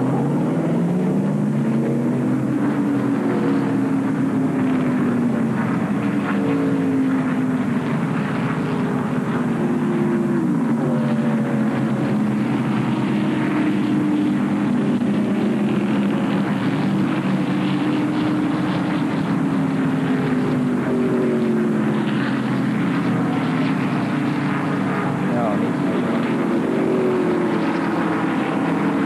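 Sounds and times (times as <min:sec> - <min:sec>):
race car engines droning past: 0:00.0 - 0:29.0.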